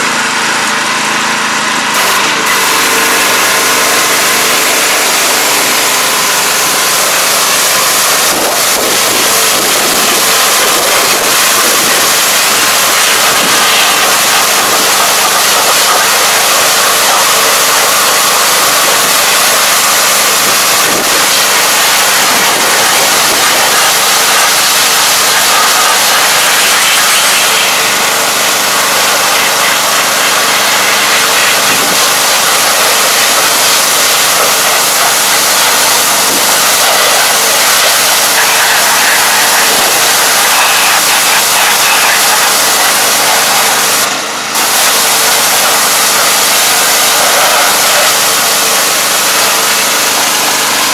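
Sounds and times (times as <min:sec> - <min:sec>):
pressure washer motor humming: 0:00.0 - 0:50.9
loud hiss of water jet spraying: 0:01.9 - 0:50.9.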